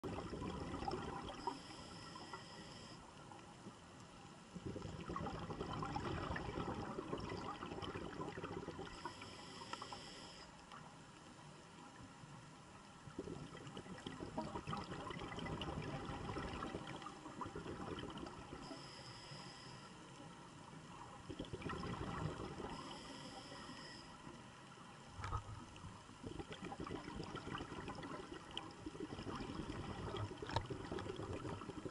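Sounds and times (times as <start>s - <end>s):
underwater bubbles gurgling: 0.0s - 10.8s, 11.5s - 19.4s, 20.1s - 31.9s.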